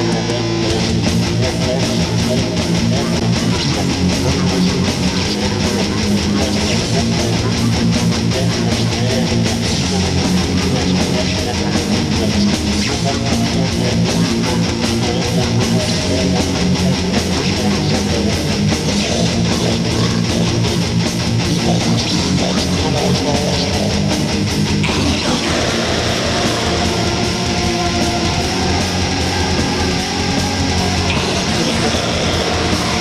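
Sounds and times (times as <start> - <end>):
metal band playing: 0.0 - 33.0.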